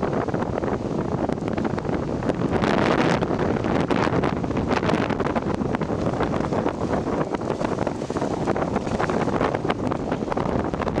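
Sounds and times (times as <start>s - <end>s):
choppy waves: 0.0s - 11.0s
wind buffeting microphone: 0.0s - 11.0s.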